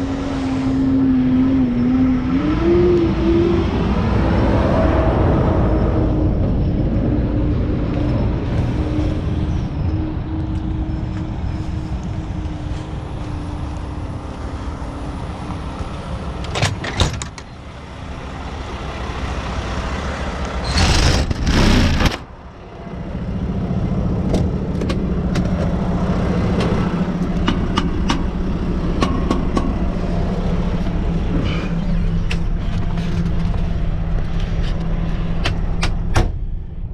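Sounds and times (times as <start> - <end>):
truck engine running: 5.1 - 36.9.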